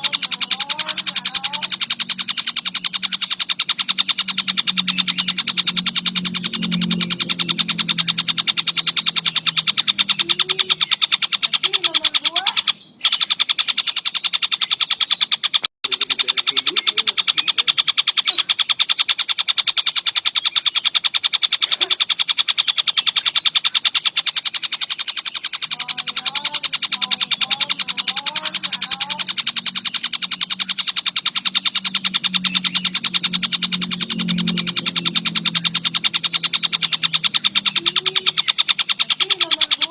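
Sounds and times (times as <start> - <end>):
kingfisher chattering call: 0.0 - 39.9
low hum: 0.0 - 39.9.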